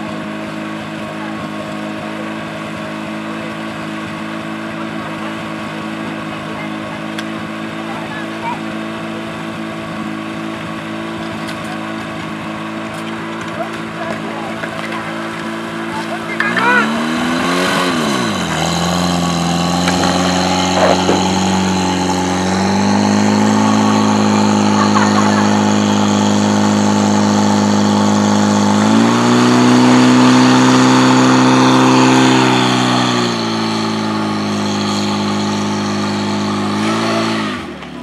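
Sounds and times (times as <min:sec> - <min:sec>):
pump engine running at high revs: 0:00.0 - 0:38.0.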